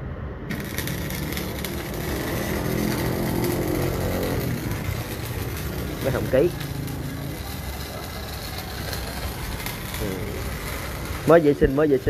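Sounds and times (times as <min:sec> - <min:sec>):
steady low hum: 0:00.0 - 0:12.0
welding arc crackling: 0:00.5 - 0:12.0.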